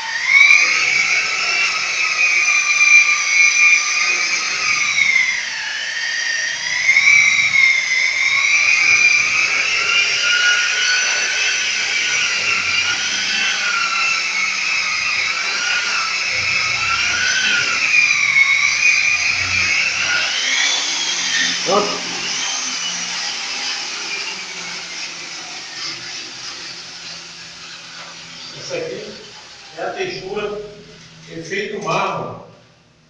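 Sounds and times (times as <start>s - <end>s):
power tool motor whine: 0.0s - 31.8s.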